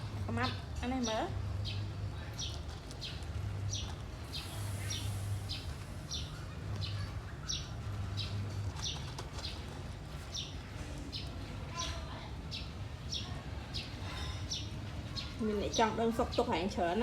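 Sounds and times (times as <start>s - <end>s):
small bird chirping: 0.3s - 16.5s.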